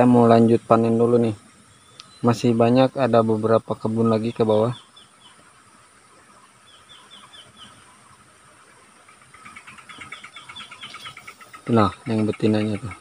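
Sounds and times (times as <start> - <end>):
bird chatter: 0.0 - 13.0
faint insect drone: 0.0 - 13.0
faint bird calls: 1.2 - 13.0.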